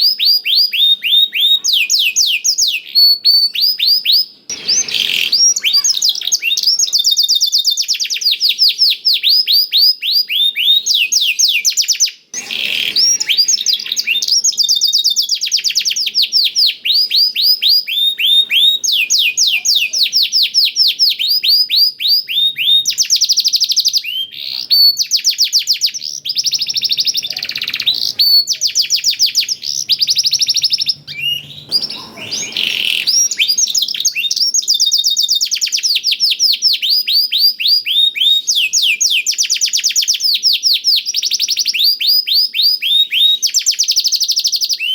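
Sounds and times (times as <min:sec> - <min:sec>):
canary singing fast trills: 0:00.0 - 0:44.9.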